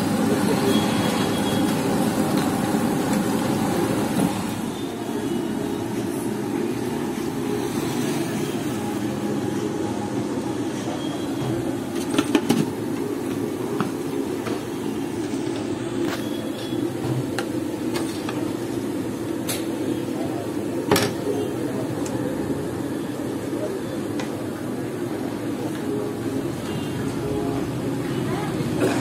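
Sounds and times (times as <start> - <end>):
street food stall rumble: 0.0 - 29.0.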